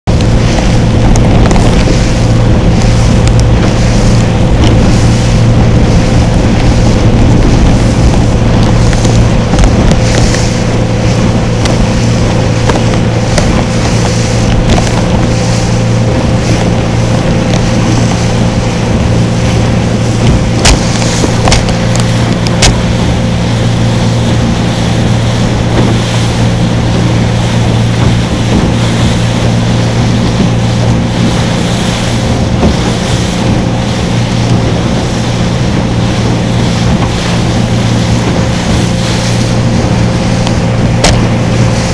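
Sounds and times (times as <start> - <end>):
boat engine droning: 0.0 - 41.9
wind: 0.0 - 41.9.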